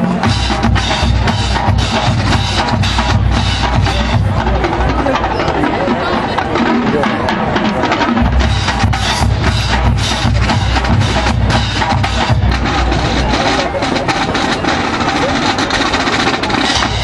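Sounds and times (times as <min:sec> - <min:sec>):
cymbals: 0:00.0 - 0:06.0, 0:06.9 - 0:17.0
bass drums: 0:00.0 - 0:17.0.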